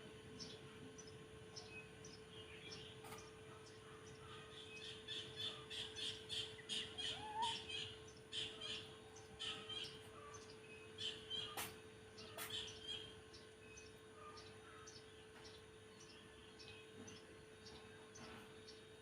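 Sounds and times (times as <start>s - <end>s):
birds chirping: 0.0s - 19.0s
faint hum: 0.0s - 19.0s.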